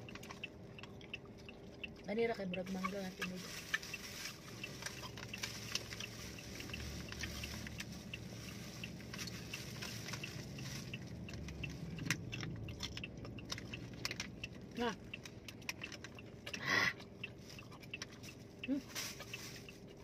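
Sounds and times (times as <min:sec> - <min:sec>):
low steady hum: 0:00.0 - 0:20.0
people chewing mango: 0:00.0 - 0:20.0.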